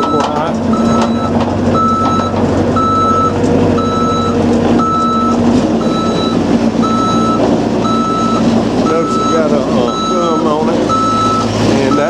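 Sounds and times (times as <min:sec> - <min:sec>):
diesel engine running: 0:00.0 - 0:12.0
excavator alarm beeping: 0:00.0 - 0:12.0.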